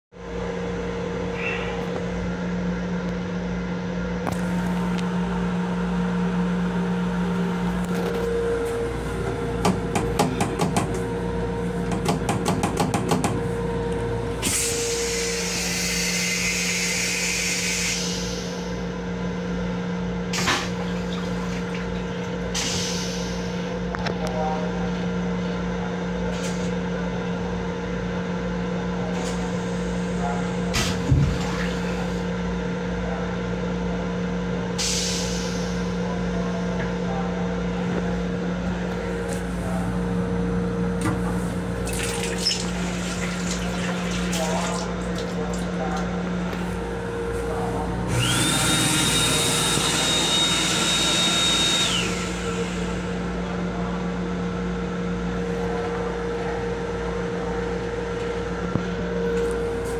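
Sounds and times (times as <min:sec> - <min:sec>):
railcar hum and rumble: 0:00.1 - 0:59.9.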